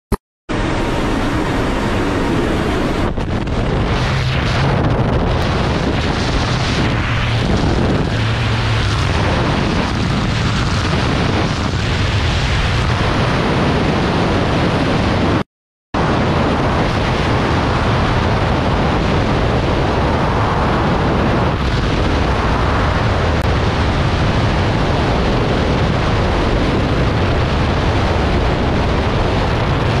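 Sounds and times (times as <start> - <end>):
wind buffeting microphone: 0.5 - 15.4, 16.0 - 30.0.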